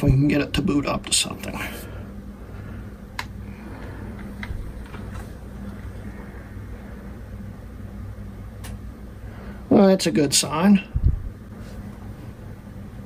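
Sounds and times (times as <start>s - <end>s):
computer hardware humming: 0.0s - 13.0s.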